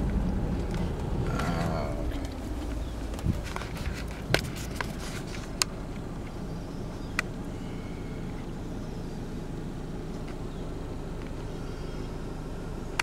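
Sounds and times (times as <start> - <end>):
car engine rumble and road noise: 0.0 - 13.0.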